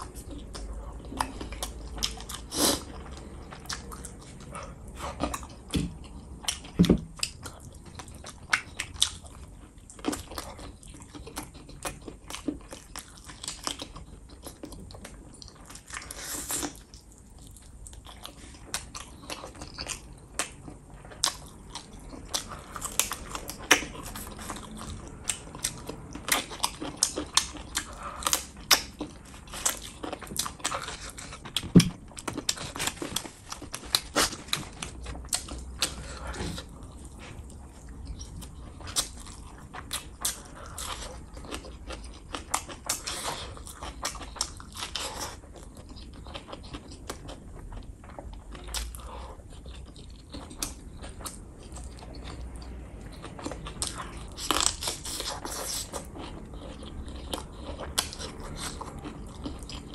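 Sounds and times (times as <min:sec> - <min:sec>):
person chewing and lip smacking: 0:00.0 - 0:59.9.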